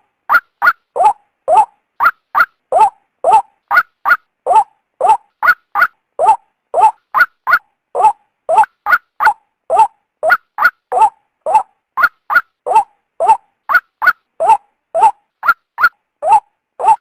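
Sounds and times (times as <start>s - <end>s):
waterhen calling: 0.3s - 17.0s.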